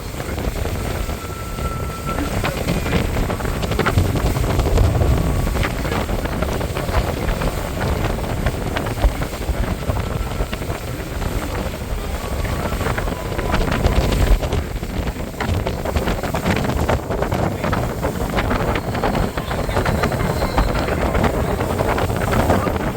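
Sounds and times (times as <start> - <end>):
boat motor: 0.0 - 22.9
water: 0.0 - 22.9
wind buffeting microphone: 0.0 - 22.9.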